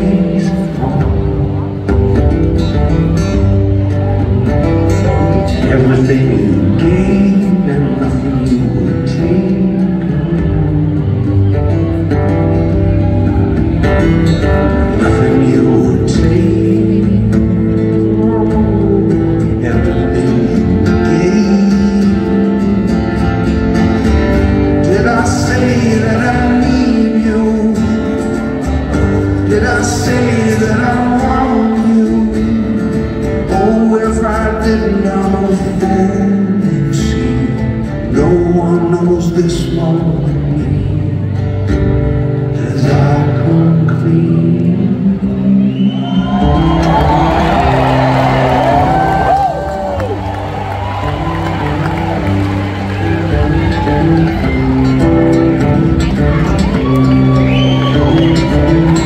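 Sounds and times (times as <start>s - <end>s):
man singing: 0.0s - 3.9s, 4.5s - 13.1s, 13.8s - 50.2s
acoustic guitar: 0.0s - 59.0s.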